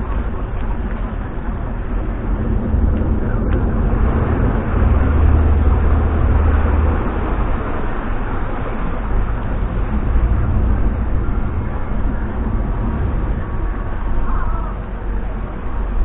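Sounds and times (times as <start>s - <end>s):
boat engines rumbling: 0.0s - 16.0s.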